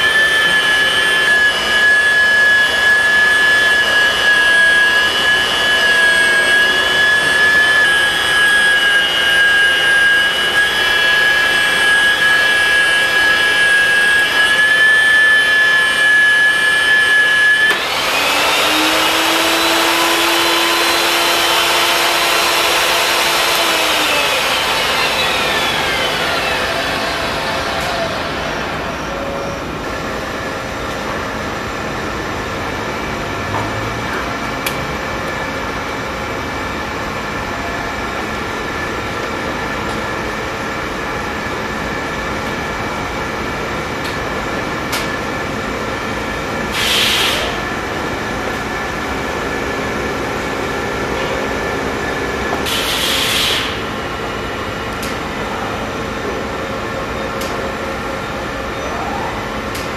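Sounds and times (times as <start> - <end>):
pipe threading machine whining: 0.0 - 59.9.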